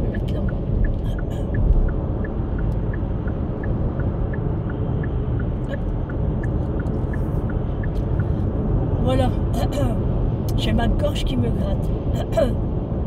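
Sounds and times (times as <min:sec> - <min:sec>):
turn signal ticking: 0:00.0 - 0:11.3
car engine rumble: 0:00.0 - 0:13.0.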